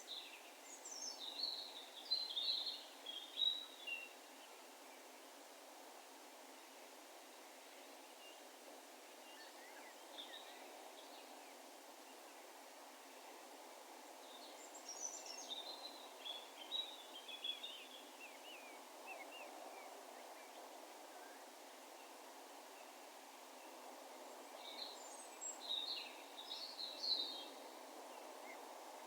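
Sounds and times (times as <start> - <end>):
faint outdoor ambience: 0.0 - 29.0.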